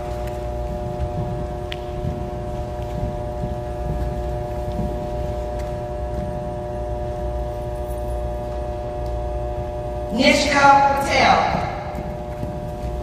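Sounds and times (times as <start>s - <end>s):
steady tonal hum: 0.0s - 13.0s.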